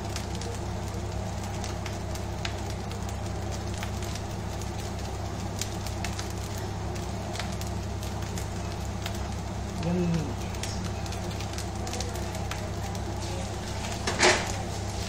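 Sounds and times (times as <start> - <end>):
constant low hum: 0.0 - 15.0
rice sizzling in a wok: 0.0 - 15.0.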